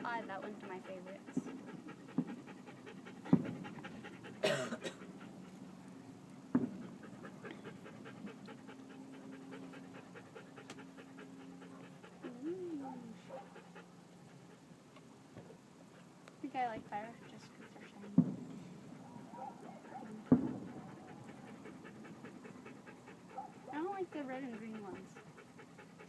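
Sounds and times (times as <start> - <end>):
dog panting rapidly: 0.0 - 5.6, 6.6 - 14.7, 15.9 - 26.0.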